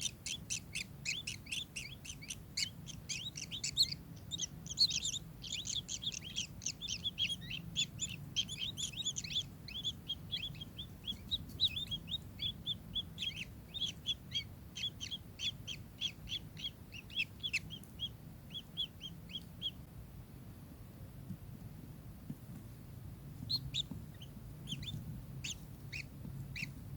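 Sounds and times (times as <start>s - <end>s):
kingfisher chirping: 0.0s - 19.8s, 23.5s - 26.8s.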